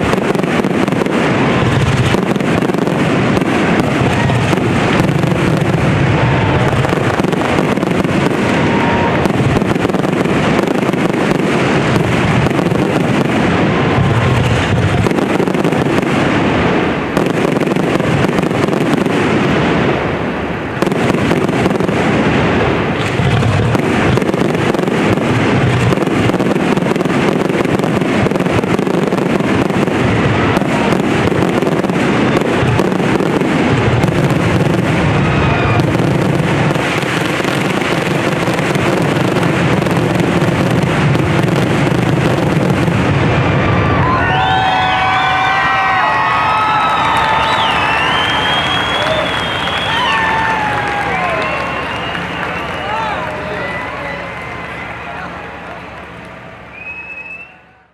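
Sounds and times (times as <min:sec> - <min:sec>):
fireworks bursts and crackling: 0:00.0 - 0:57.8.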